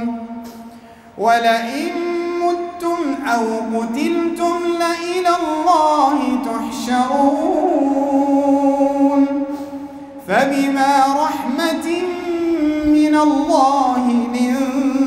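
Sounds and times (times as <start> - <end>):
man chanting a recitation: 0.0 - 0.2, 1.2 - 9.4, 10.2 - 15.0.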